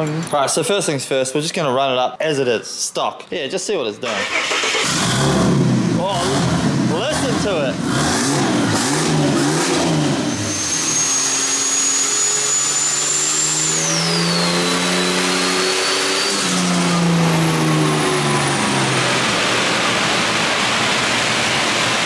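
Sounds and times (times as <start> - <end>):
car engine under load: 4.1 - 22.0.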